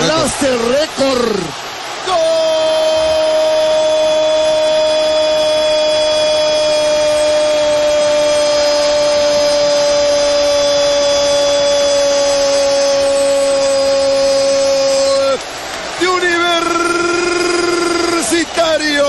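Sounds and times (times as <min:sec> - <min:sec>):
noisy background: 0:00.0 - 0:19.0
sportscaster shouting goal: 0:00.0 - 0:19.0.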